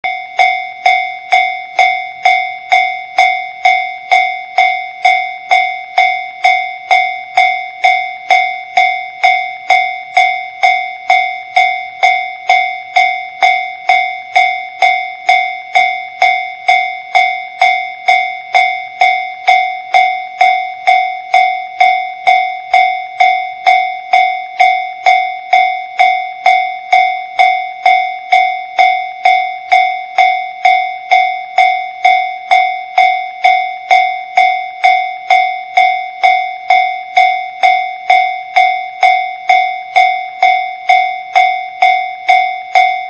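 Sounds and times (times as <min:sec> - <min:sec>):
alarm bell clanging: 0:00.0 - 0:43.0.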